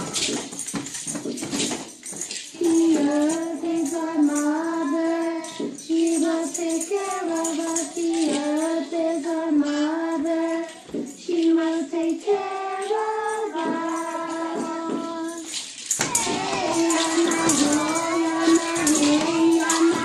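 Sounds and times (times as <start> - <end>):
children singing: 2.6 - 20.0.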